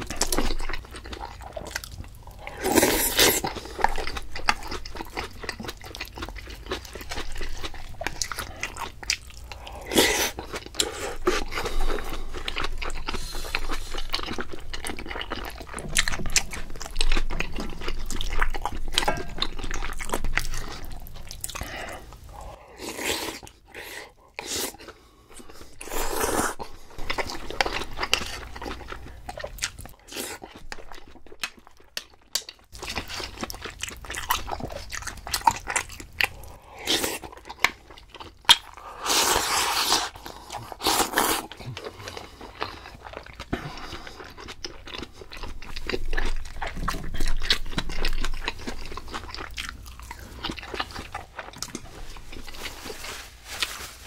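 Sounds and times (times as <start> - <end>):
person biting and chewing food: 0.0 - 52.7.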